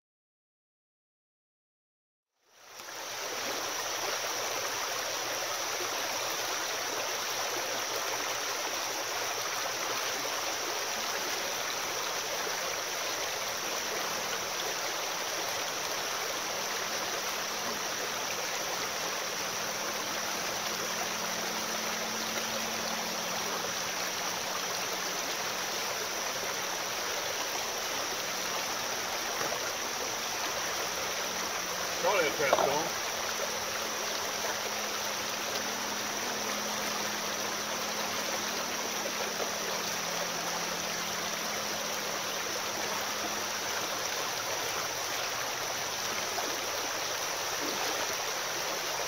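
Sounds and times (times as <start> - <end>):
creek water flowing over rocks: 2.4 - 49.0.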